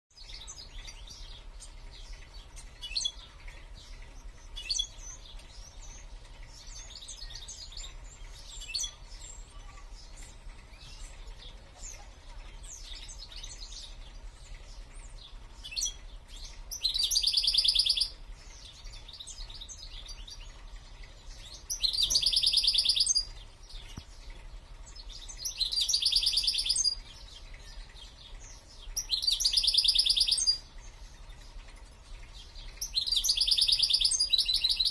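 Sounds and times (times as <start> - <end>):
rapid bird trills: 0.1 - 34.9
songbird singing: 0.1 - 34.9.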